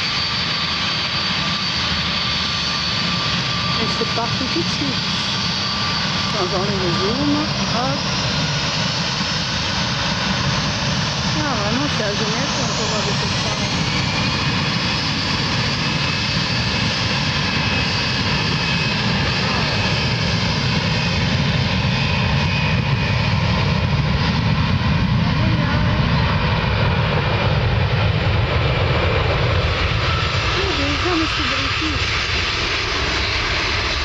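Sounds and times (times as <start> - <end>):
jet engines at take-off: 0.0 - 34.0.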